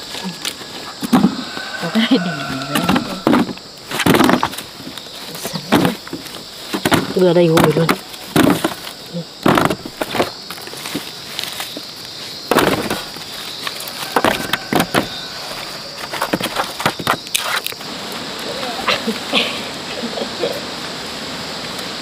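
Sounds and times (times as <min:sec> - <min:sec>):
high insect-like hum: 0:00.0 - 0:22.0
roots knocking in basket: 0:00.1 - 0:17.9.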